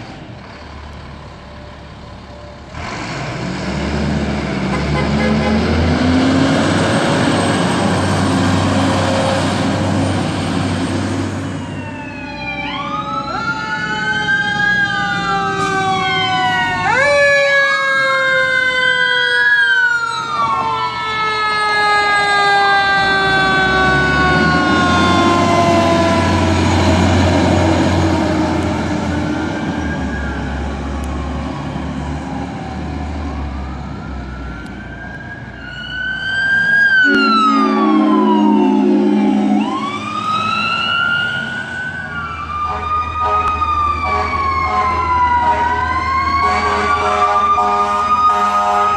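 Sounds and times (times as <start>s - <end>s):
fire truck sirens wailing: 0.0s - 48.9s.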